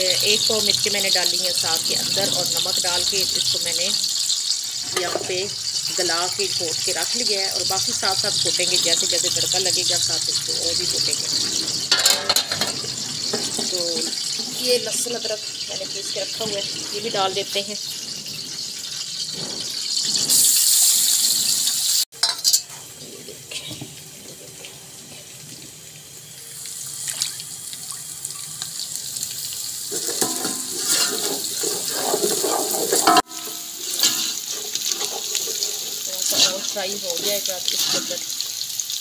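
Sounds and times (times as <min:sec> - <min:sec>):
stirring clatter in pot: 0:00.0 - 0:25.7, 0:29.8 - 0:38.6
oil sizzling in a pot: 0:00.0 - 0:39.0.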